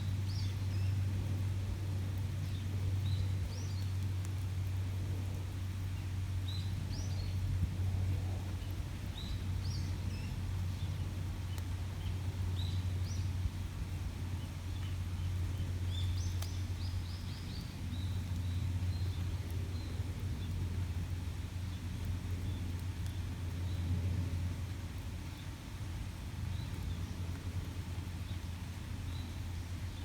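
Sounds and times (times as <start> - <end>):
small birds chirping: 0.0 - 7.6, 8.3 - 24.4, 26.4 - 30.0
low outdoor rumble: 0.0 - 30.0.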